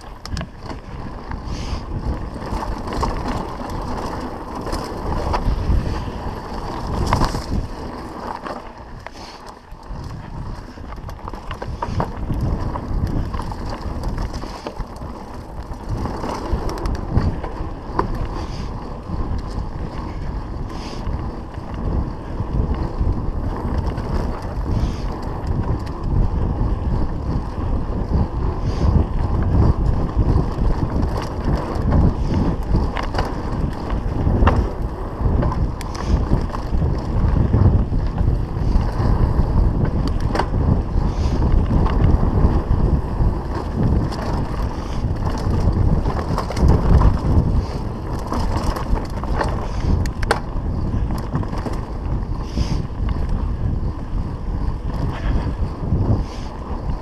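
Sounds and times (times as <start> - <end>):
bike rattling and knocking: 0.0 - 57.0
tyres rumbling on dirt: 0.0 - 57.0
wind rushing over microphone: 0.0 - 57.0.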